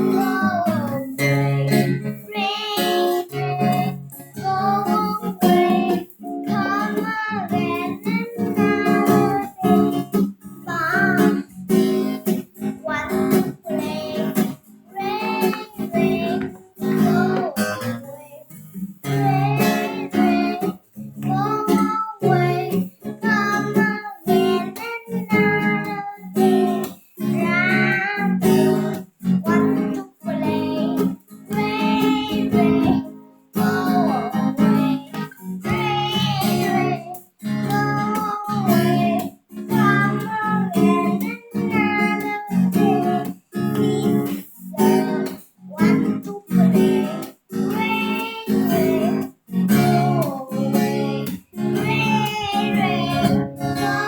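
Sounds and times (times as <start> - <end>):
child singing: 0.0 - 54.0
strummed acoustic guitar: 0.0 - 54.0.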